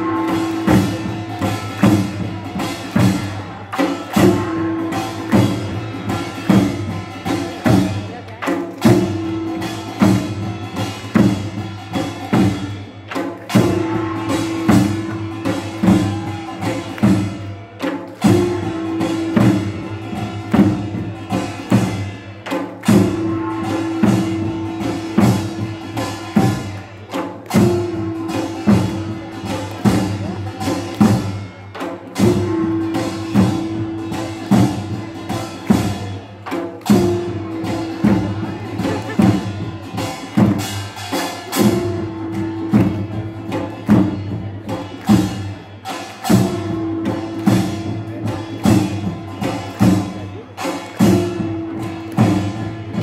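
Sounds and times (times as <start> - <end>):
percussion band of gongs and drums: 0.0 - 53.0.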